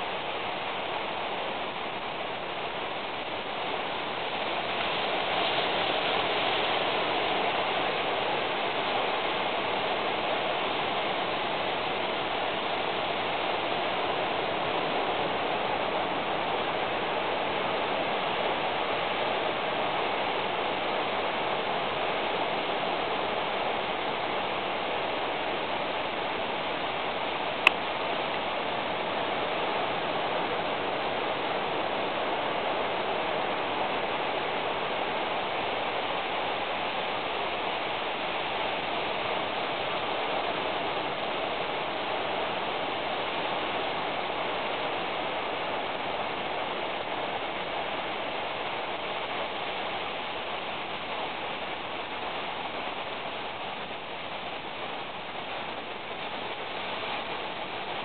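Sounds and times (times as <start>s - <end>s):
steady hissing noise: 0.0s - 58.0s.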